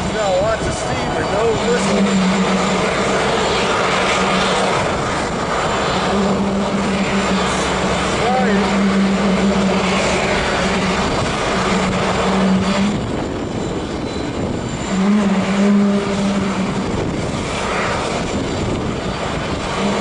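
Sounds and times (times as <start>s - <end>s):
low hum: 0.0s - 20.0s
steam hissing: 0.0s - 20.0s.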